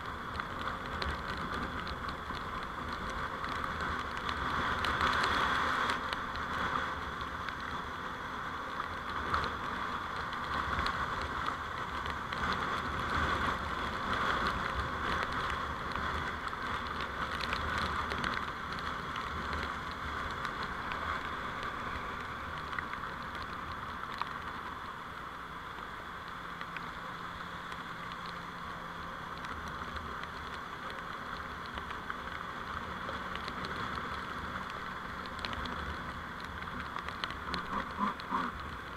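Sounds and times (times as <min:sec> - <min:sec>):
small ticks: 0:00.0 - 0:07.8, 0:08.8 - 0:25.0, 0:25.7 - 0:38.9
road noise while driving: 0:00.0 - 0:38.9.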